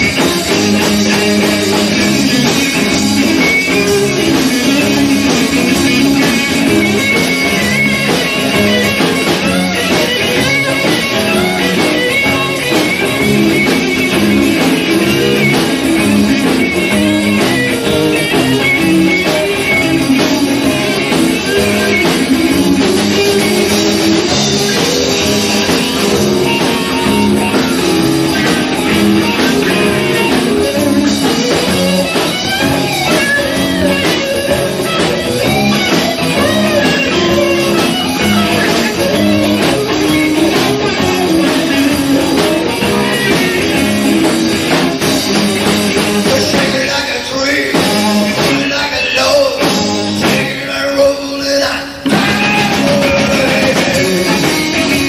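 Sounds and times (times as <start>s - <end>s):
electric guitar: 0.0s - 55.0s
live blues-rock band: 0.0s - 55.0s.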